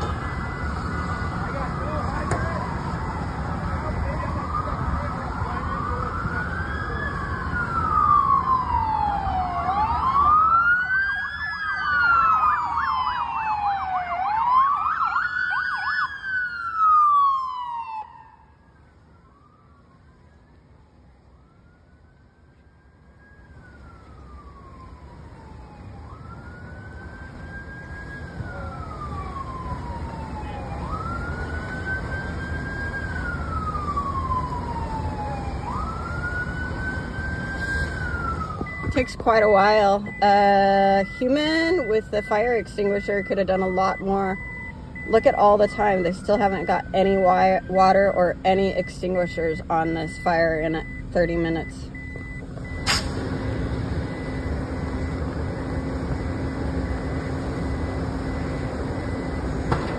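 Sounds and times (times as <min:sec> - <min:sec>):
emergency sirens wailing: 0:00.0 - 0:59.9
low traffic rumble: 0:00.0 - 0:59.9.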